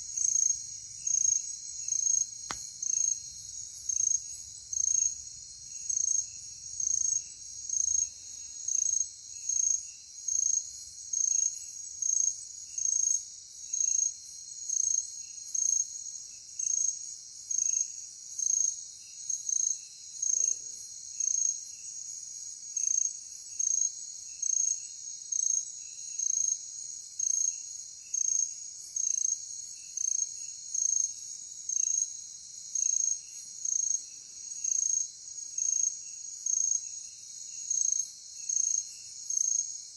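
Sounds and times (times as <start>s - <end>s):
loud cricket-like chirp: 0.0s - 39.9s.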